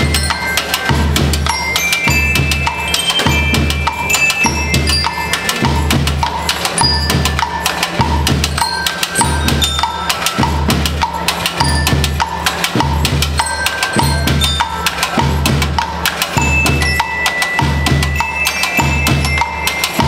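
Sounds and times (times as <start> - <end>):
bell lyre notes: 0.0 - 20.0
drums steady beat: 0.0 - 20.0.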